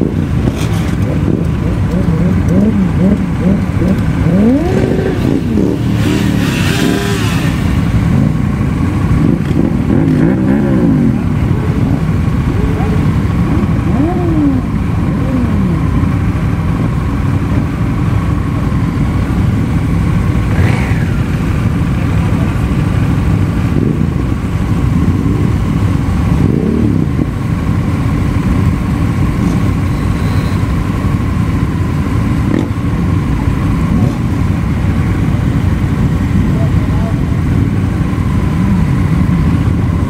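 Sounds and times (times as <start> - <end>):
motorcycle engines idling and revving: 0.0 - 40.0.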